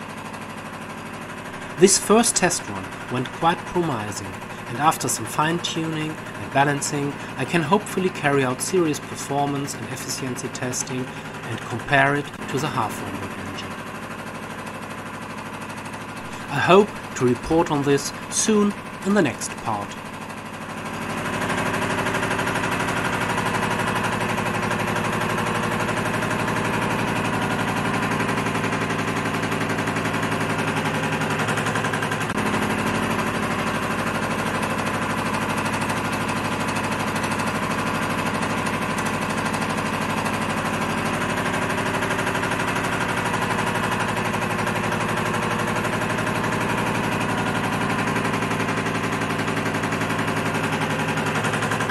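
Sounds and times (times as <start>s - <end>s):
stirling engine clattering: 0.5s - 51.9s.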